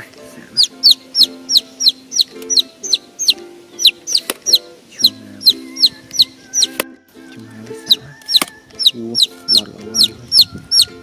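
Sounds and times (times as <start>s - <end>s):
bird peeping: 0.6s - 11.0s.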